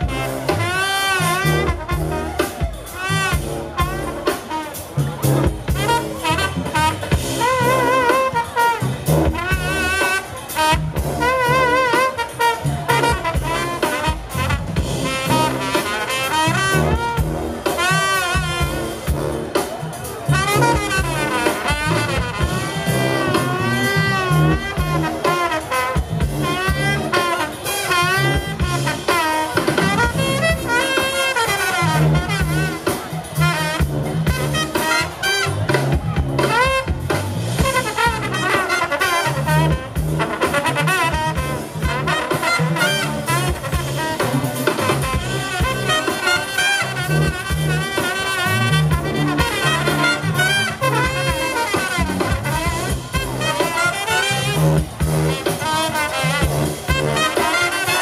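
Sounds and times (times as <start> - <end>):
drums: 0.0 - 58.0
saxophones: 0.0 - 58.0
trombones: 0.0 - 58.0
trumpet: 0.0 - 58.0
sousaphone bass line: 5.0 - 19.6, 20.2 - 58.0.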